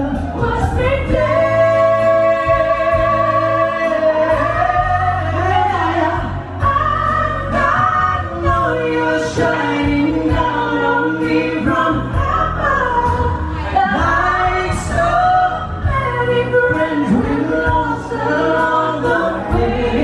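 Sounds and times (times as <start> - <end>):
backing music: 0.0 - 20.0
woman singing: 0.0 - 20.0.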